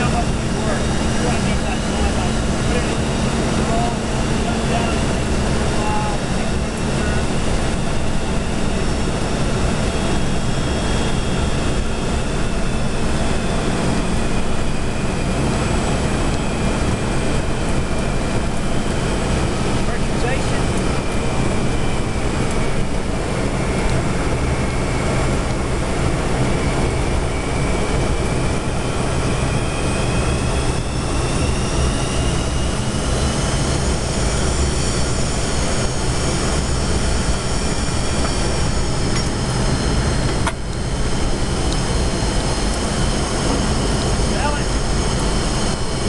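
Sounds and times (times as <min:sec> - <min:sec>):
airflow and jet engines rumble: 0:00.0 - 0:46.0
high whining tones: 0:00.0 - 0:46.0.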